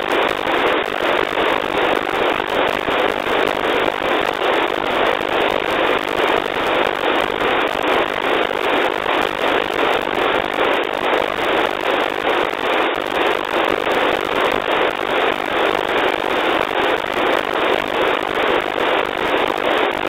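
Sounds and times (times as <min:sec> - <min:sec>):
pulsing radio static hiss: 0:00.0 - 0:20.0.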